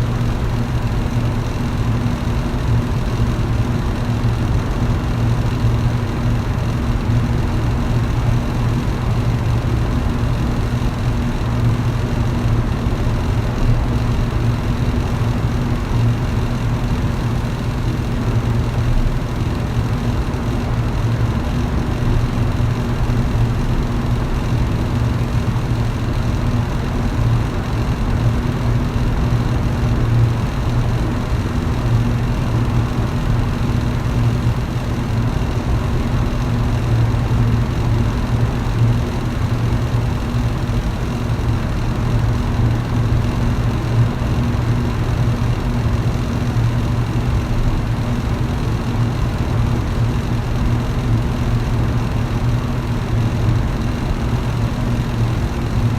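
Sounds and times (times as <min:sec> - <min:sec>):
fan motor hum: 0:00.0 - 0:55.9
rush of air from fan: 0:00.0 - 0:55.9.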